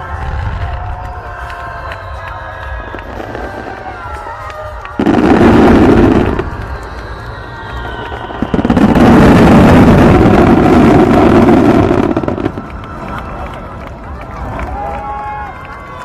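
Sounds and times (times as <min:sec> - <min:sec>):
fireworks bursting: 0:00.0 - 0:13.5.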